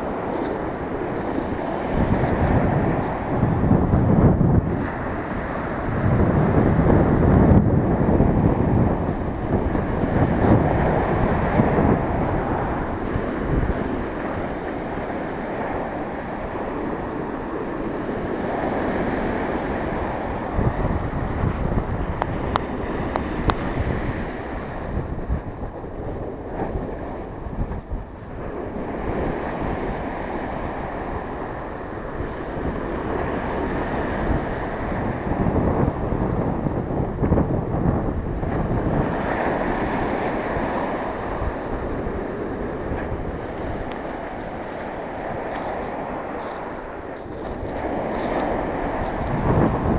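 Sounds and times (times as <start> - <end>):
surf breaking on shore: 0.0 - 49.9
wind buffeting microphone: 0.0 - 49.9.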